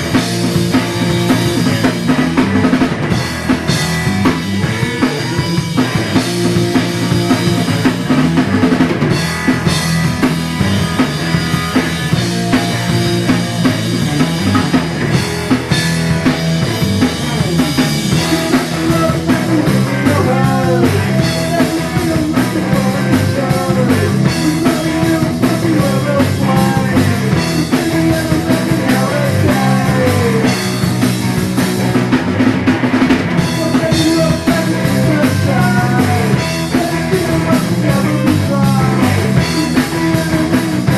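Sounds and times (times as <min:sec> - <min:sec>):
instrumental rock music: 0:00.0 - 0:40.9.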